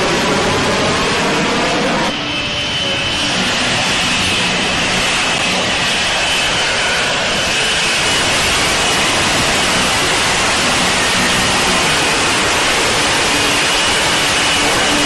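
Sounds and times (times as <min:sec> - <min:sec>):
faint high whine: 0:00.0 - 0:15.0
jet engine rushing noise: 0:00.0 - 0:15.0.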